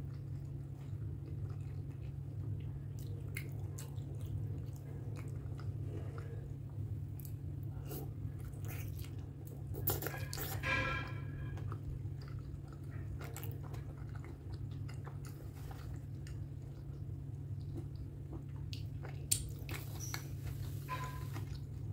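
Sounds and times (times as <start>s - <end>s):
wet sticky chewing: 0.0s - 10.7s, 11.5s - 21.9s
steady low hum: 0.0s - 21.9s.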